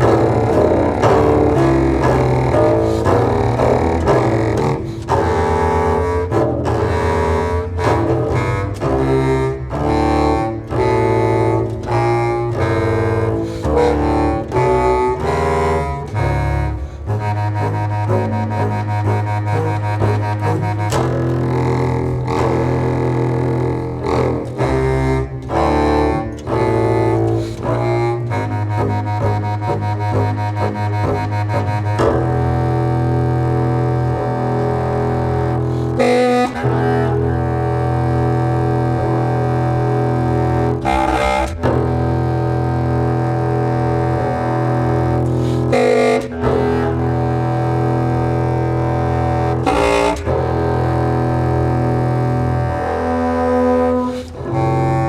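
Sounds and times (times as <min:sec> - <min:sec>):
clarinet: 0:00.0 - 0:55.0
double bass: 0:00.0 - 0:55.0.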